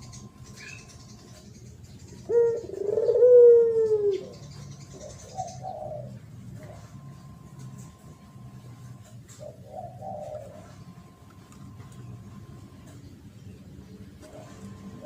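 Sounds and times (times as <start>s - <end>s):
dove cooing: 0.0s - 13.2s.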